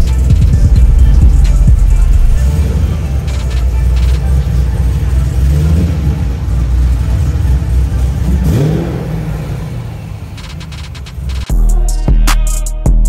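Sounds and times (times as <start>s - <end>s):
car engine revving: 0.0s - 11.5s.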